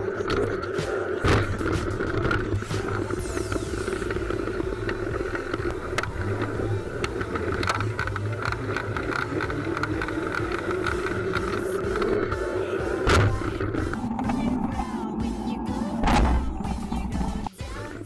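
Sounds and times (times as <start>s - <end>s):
bike clicks and rattles: 0.0s - 14.8s
bike tyre and wind noise: 0.0s - 15.2s.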